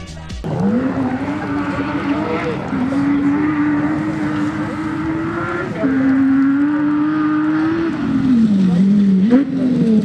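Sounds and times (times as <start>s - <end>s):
rally car engine revving high: 0.4s - 10.0s.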